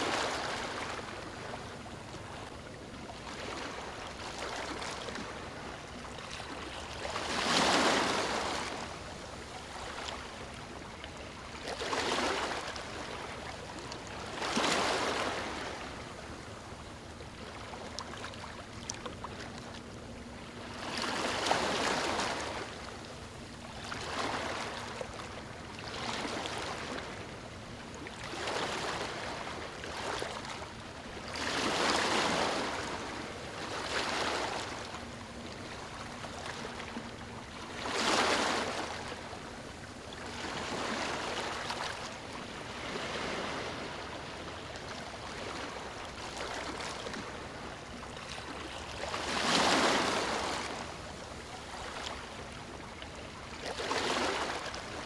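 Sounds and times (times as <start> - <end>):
ocean waves on a beach: 0.0 - 55.0.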